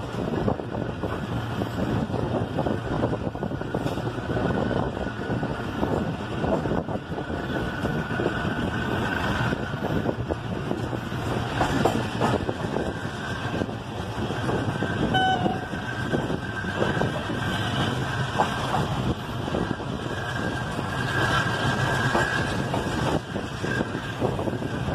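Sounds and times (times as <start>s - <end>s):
train wheels rumbling and clattering: 0.0s - 24.9s.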